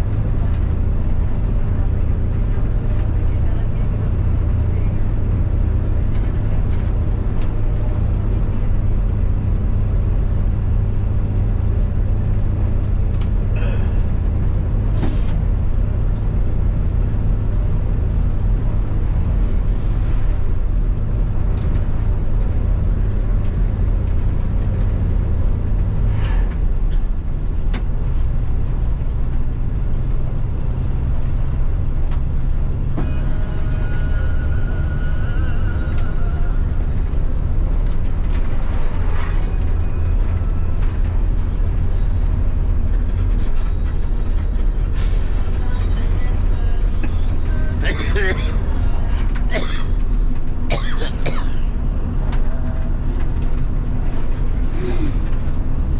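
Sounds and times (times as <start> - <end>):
bus engine drone: 0.0 - 55.9.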